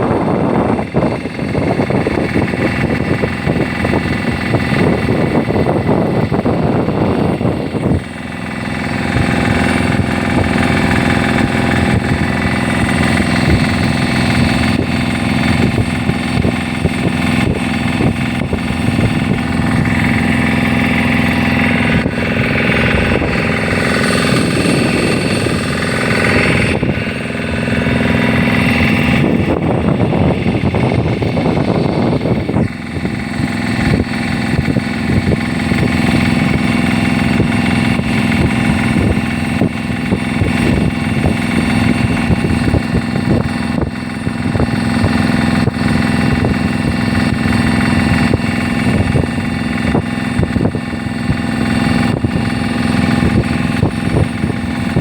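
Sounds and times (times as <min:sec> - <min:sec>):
motor engine running: 0:00.0 - 0:55.0.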